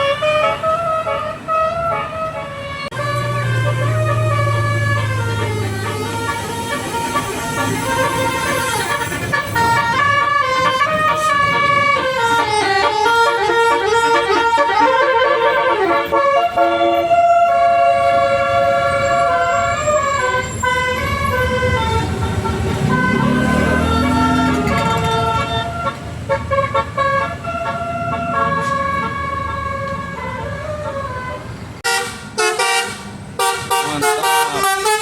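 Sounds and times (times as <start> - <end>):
musical bus horn: 0.0 - 35.0.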